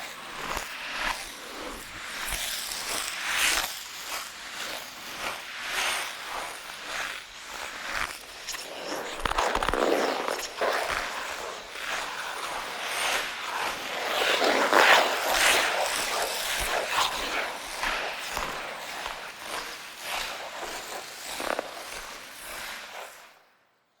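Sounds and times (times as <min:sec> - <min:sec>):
ice skates scraping on ice: 0:00.0 - 0:23.4.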